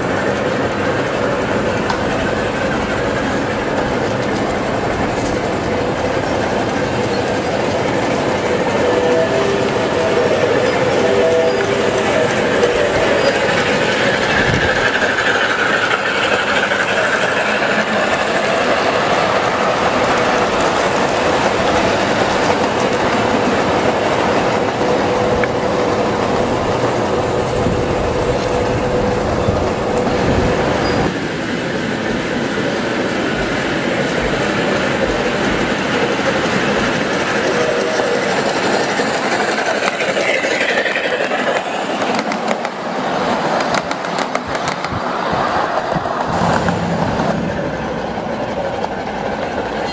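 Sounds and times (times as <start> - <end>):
train wheels clicking over rails: 0.0 - 49.9.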